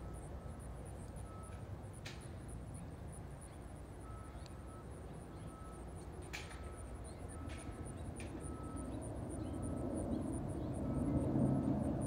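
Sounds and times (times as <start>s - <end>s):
jet engines low rumble: 0.0s - 12.0s.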